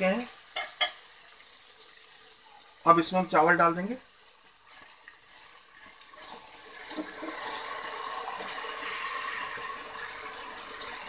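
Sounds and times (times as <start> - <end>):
rice sizzling in oil: 0.0 - 11.0.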